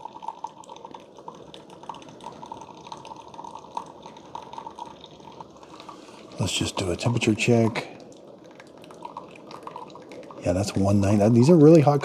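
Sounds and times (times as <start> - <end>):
coffee trickling into glass mug: 0.0 - 11.8.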